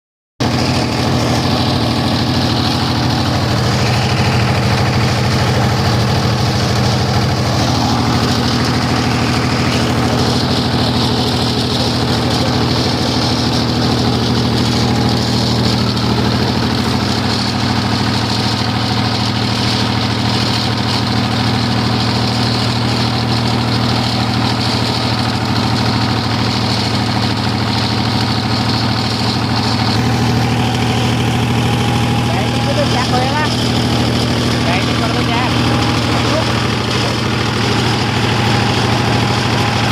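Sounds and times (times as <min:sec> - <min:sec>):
diesel generator running: 0:00.4 - 0:39.9.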